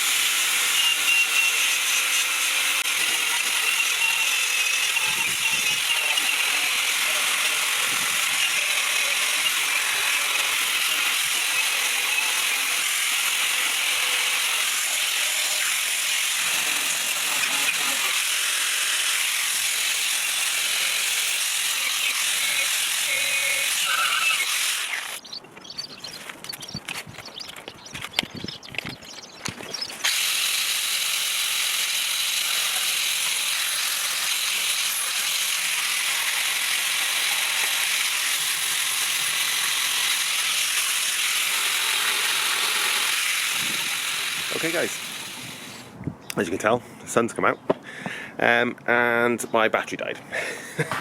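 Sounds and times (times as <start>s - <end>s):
angle grinder grinding metal: 0.0s - 45.9s.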